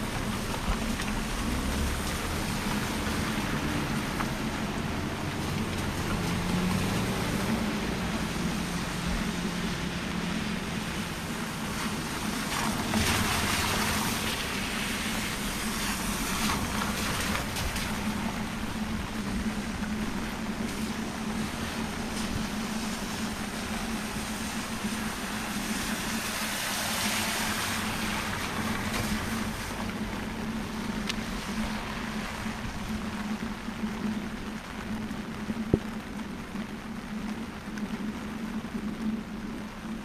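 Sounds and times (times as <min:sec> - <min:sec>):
car swishing past on wet road: 0:00.0 - 0:19.9, 0:20.6 - 0:33.2
falling rain: 0:00.0 - 0:40.0
traffic hiss on wet road: 0:00.0 - 0:40.0.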